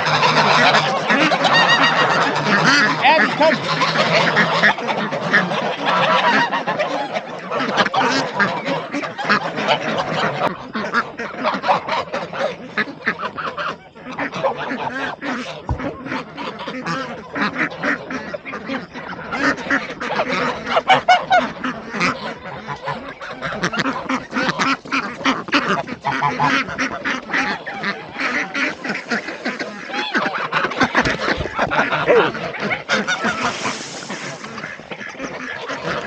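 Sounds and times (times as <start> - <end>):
ducks quacking: 0.0 - 36.0
geese honking: 0.0 - 36.0.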